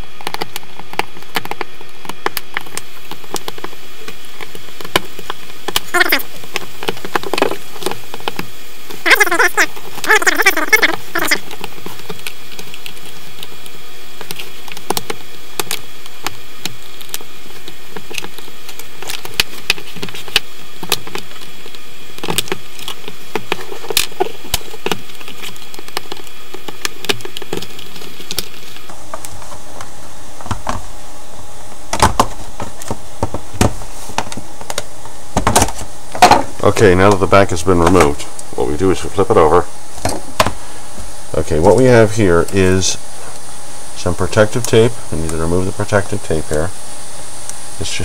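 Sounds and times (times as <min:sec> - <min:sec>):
steady hiss: 0:00.0 - 0:48.0.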